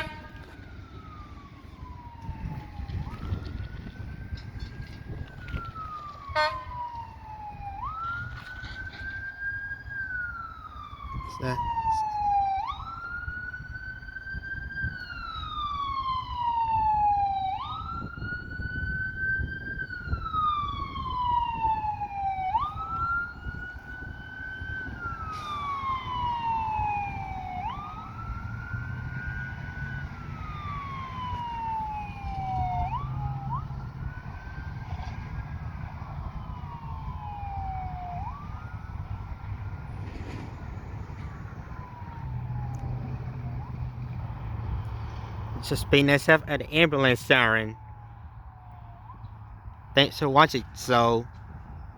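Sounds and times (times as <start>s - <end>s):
ambulance siren wailing: 0.0s - 51.9s.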